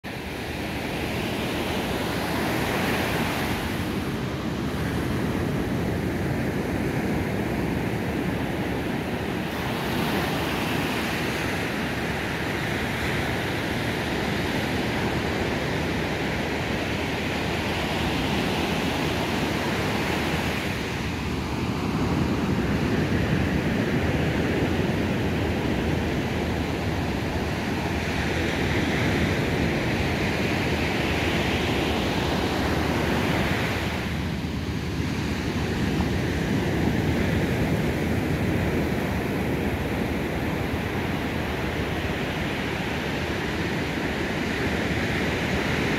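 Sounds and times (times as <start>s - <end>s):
waves breaking on a beach: 0.0s - 45.9s.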